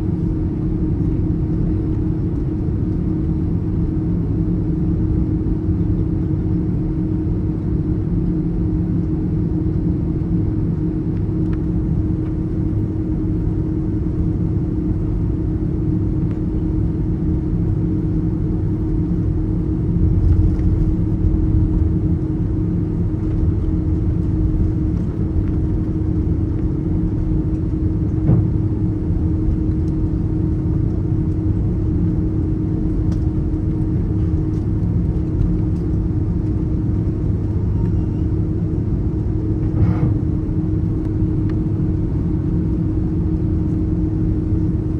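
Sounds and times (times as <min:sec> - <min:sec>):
airliner cabin engine rumble: 0:00.0 - 0:44.9.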